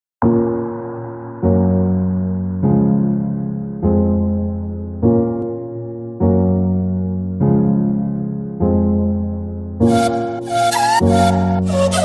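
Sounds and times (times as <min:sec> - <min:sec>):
sustained chords music: 0:00.2 - 0:10.6.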